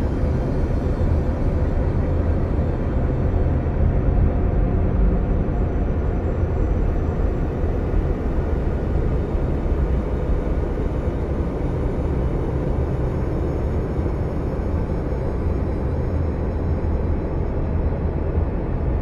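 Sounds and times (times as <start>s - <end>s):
deep rumbling ambient drone: 0.0s - 19.0s.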